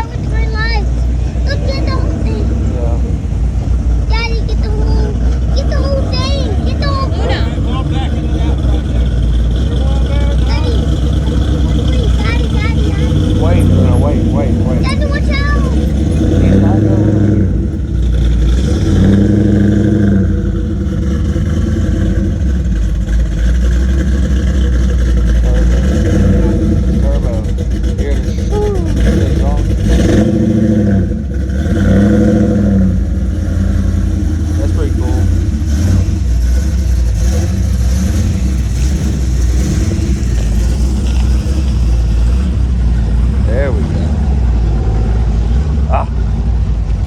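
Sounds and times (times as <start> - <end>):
car engine running loudly: 0.0 - 47.0.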